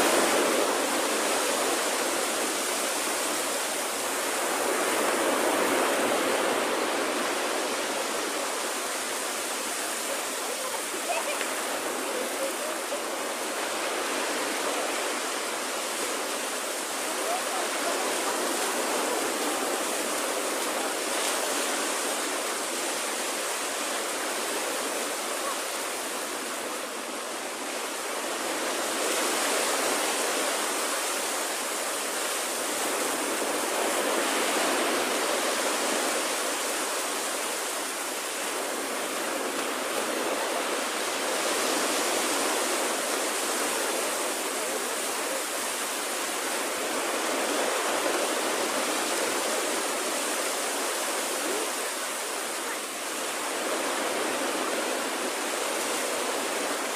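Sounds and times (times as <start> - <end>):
waves breaking on a beach: 0.0 - 56.9.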